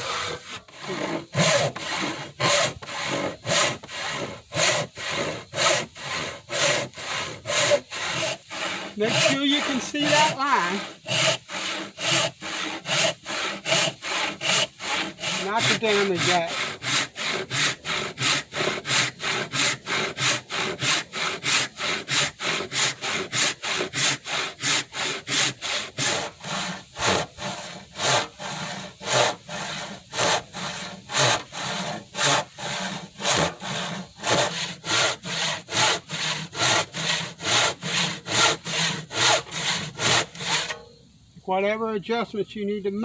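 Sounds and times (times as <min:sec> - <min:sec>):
handsaw cutting wood: 0:00.0 - 0:40.8.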